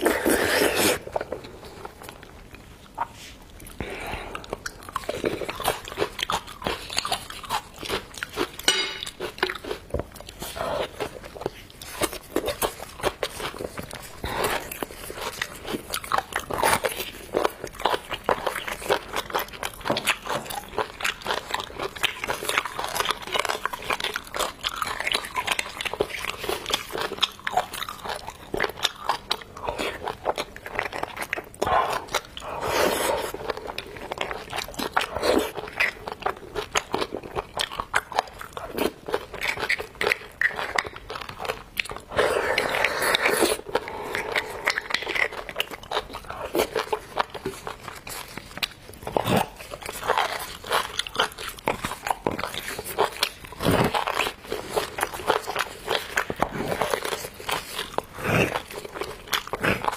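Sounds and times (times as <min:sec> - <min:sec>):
person chewing meat: 0:00.0 - 0:59.9.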